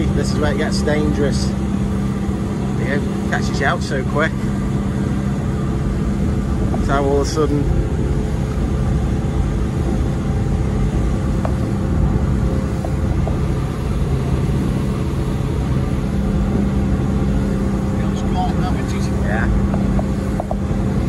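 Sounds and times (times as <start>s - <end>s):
motorboat engine running: 0.0s - 21.0s
wind and water rushing: 0.0s - 21.0s.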